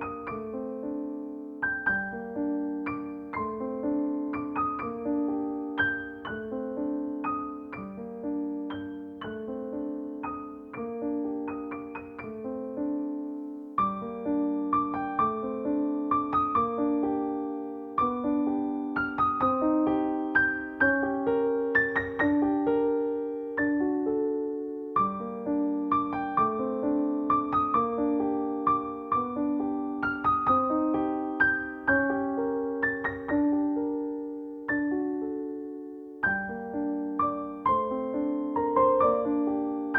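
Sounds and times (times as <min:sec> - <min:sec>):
gentle piano music: 0:00.0 - 0:39.9.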